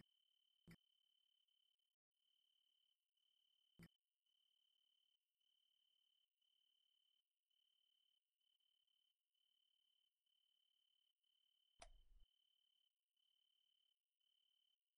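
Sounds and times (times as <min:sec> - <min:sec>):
faint cricket trill: 0:00.8 - 0:14.8.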